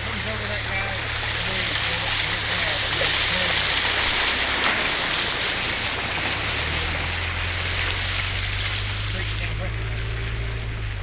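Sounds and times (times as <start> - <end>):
floodwater rushing: 0.0 - 11.0
vehicle engine running low: 0.0 - 11.0.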